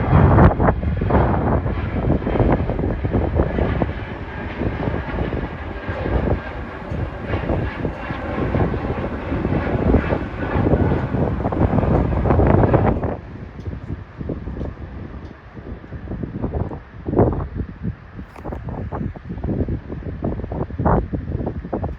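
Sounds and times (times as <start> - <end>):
jet engines rumbling on takeoff: 0.0 - 21.9.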